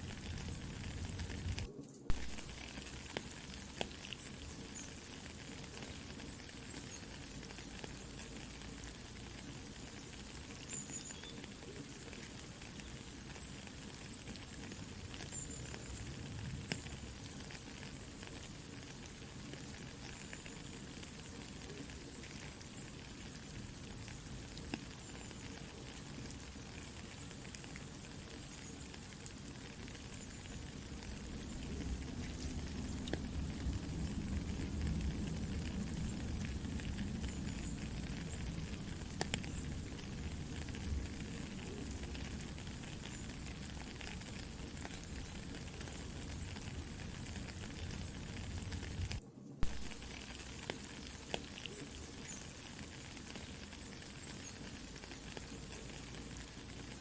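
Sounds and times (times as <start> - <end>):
campfire crackling and popping: 0.0 - 57.0
soft steady rain: 0.0 - 57.0.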